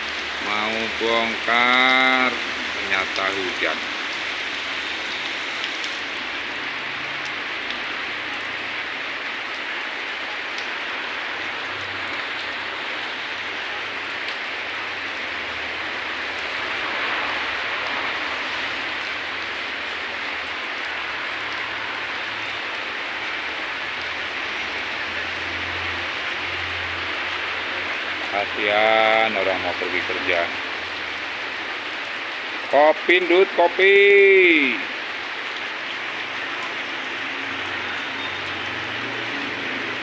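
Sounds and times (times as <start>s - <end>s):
steady rain pattering: 0.0s - 40.0s.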